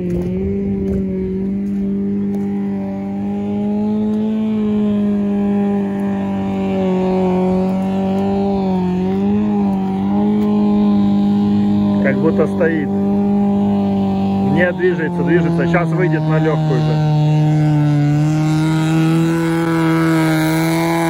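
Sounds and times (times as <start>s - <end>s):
race car engine at high revs: 0.0s - 21.0s.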